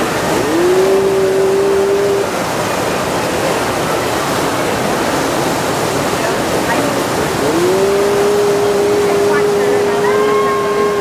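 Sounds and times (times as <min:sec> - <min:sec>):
white water rushing: 0:00.0 - 0:11.0.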